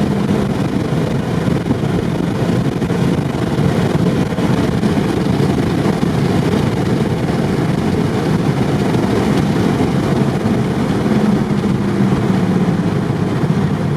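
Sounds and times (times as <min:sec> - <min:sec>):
loud car engine drone: 0:00.0 - 0:13.9.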